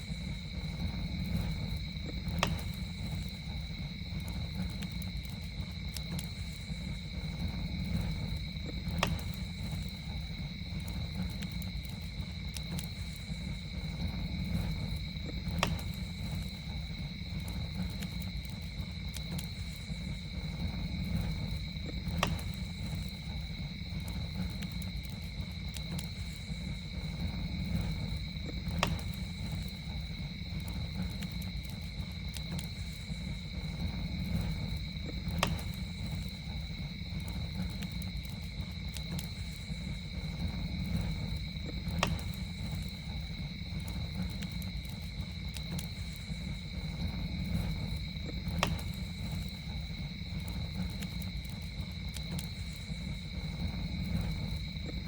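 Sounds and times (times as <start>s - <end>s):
campfire crackling and popping: 0.0s - 55.0s
insects trilling: 0.0s - 55.0s.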